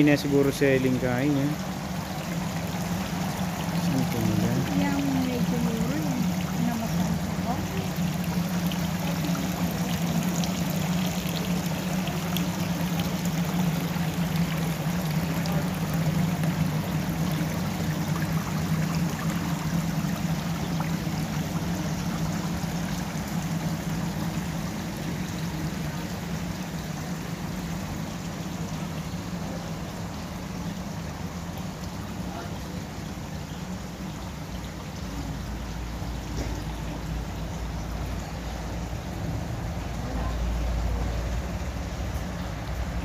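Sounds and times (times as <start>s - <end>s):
fountain water trickling: 0.0s - 43.0s.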